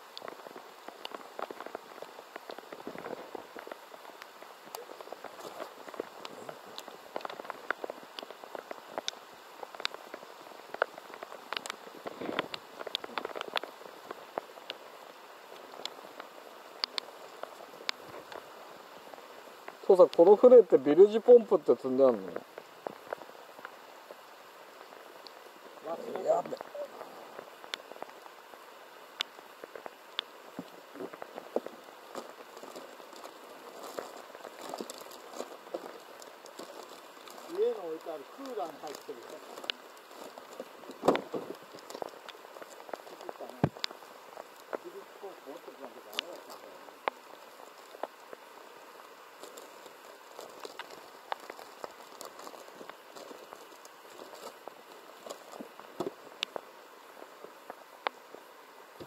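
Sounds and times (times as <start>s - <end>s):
rain falling on water and boat: 0.0s - 59.0s.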